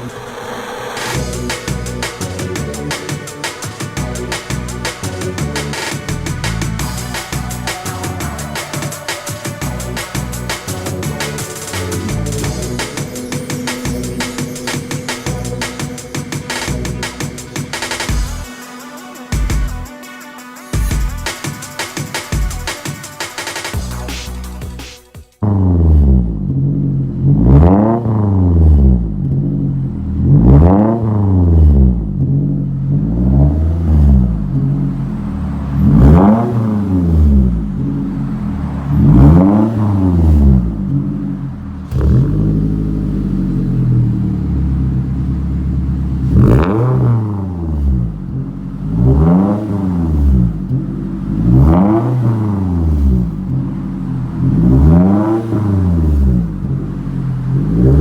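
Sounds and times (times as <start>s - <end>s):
car engine revving and idling: 0.0s - 58.0s.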